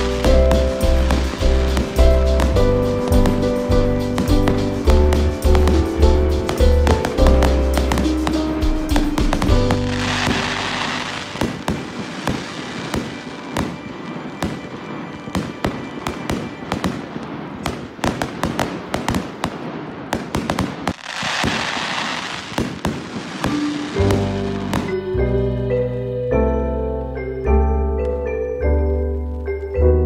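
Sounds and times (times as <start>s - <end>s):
fireworks hissing crackle: 0.0s - 25.0s
fireworks bangs and pops: 0.0s - 25.2s.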